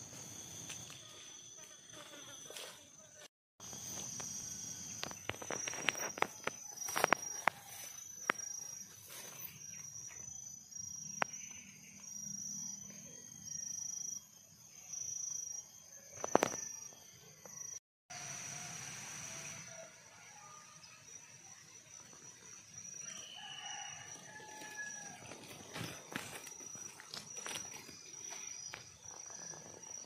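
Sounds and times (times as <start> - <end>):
insect high pulsed call: 0.0 - 30.0.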